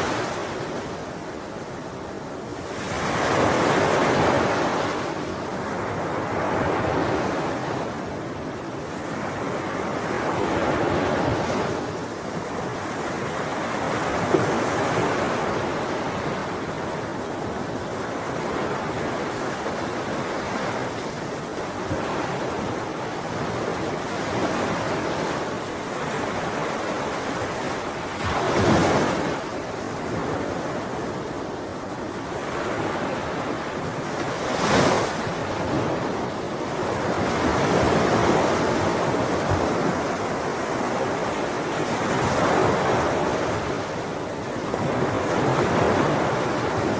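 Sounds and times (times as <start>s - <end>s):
ocean surf on shore: 0.0s - 46.9s
waves crashing: 0.0s - 46.9s.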